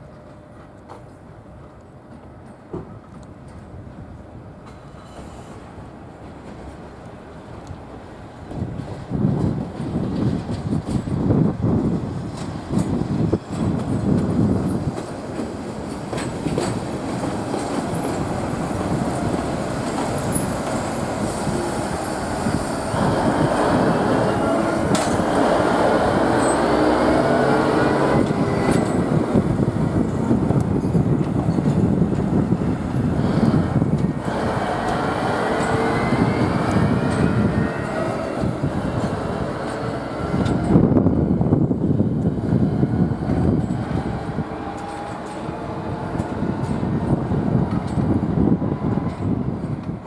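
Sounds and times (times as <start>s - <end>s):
diesel locomotive engine: 0.0s - 50.0s
wheels rolling on rails: 8.5s - 50.0s.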